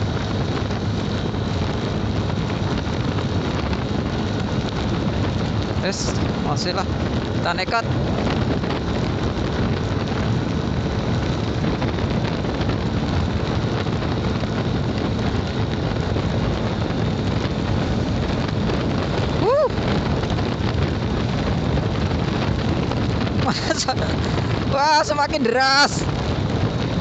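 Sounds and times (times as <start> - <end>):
heavy rain on microphone: 0.0 - 27.0
wind rushing: 0.0 - 27.0.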